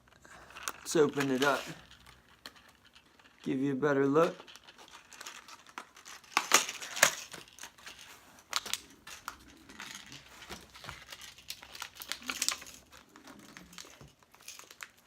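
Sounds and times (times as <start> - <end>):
plastic packaging crinkling: 0.1 - 15.0.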